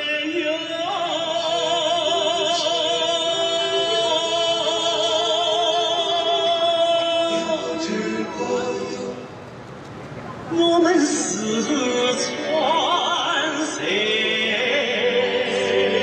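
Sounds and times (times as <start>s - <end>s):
opera-style music with held note: 0.0s - 16.0s.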